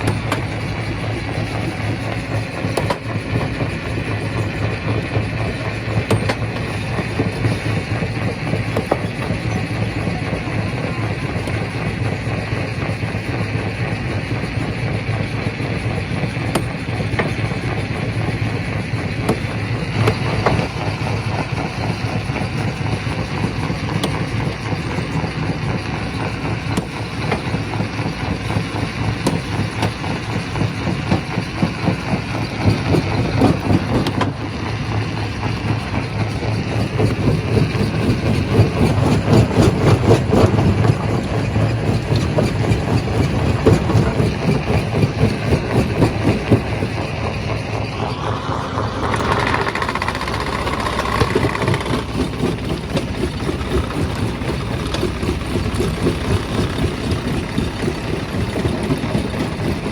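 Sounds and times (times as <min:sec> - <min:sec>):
rock crusher rumbling: 0:00.0 - 0:59.9.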